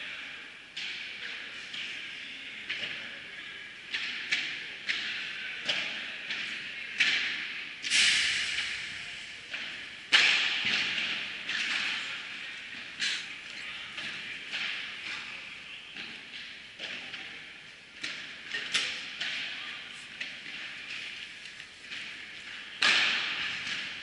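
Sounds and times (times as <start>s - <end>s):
balls struck and bouncing: 3.9s - 17.4s, 18.0s - 24.0s.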